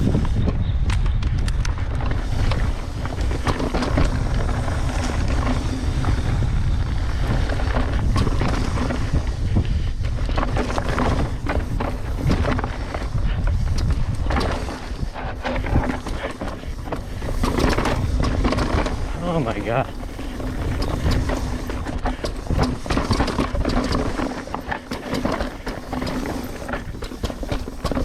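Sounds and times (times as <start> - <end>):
bike rattling and knocking: 0.0 - 28.0
wind buffeting microphone: 0.0 - 28.0.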